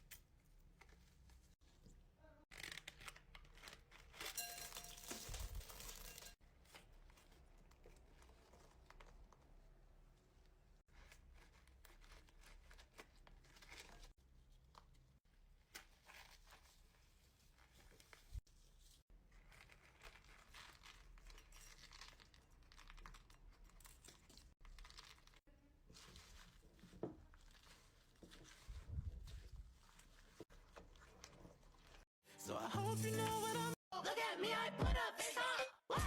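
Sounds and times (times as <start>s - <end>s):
crinkling handling noise: 2.6s - 32.1s.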